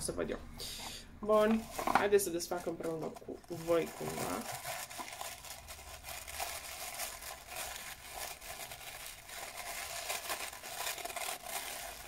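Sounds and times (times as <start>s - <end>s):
tissue paper crinkling: 1.4s - 12.0s.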